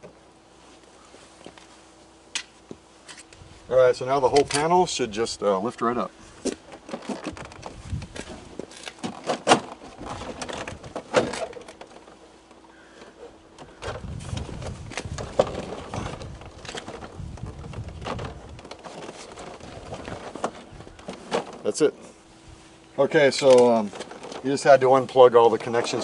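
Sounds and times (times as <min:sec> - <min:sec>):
rustling and scraping: 0:00.0 - 0:26.0.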